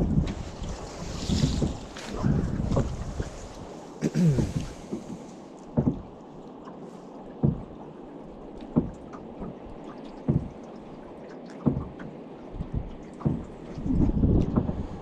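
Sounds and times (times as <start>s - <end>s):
rhythmic water splashing: 0.0s - 15.0s.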